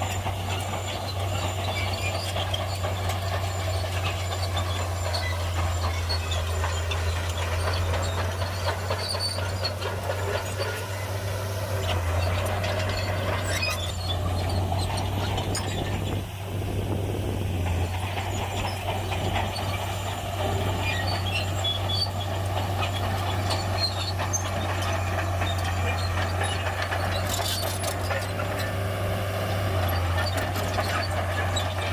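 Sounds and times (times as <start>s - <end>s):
bulldozer diesel engine running: 0.0s - 31.9s
steel tracks squeaking and clanking: 0.0s - 31.9s.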